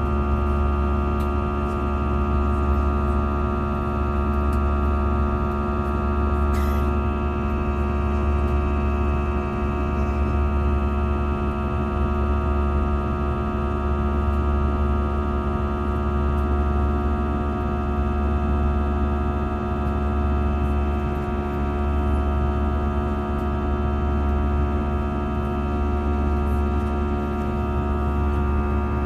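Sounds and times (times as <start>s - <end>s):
jet engine drone in cabin: 0.0s - 29.0s.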